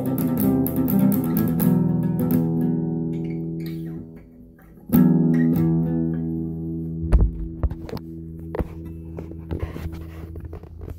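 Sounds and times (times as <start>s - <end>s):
guitar strumming chords: 0.0s - 10.9s.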